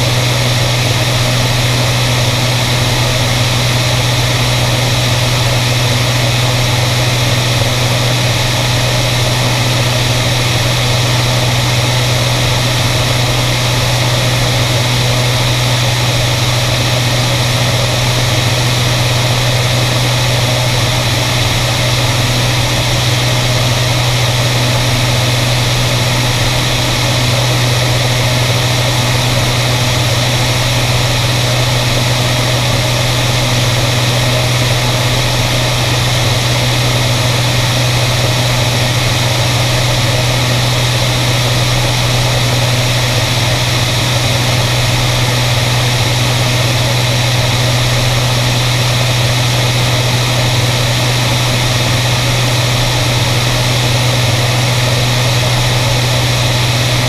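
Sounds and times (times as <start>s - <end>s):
propeller plane engines droning: 0.0s - 57.0s.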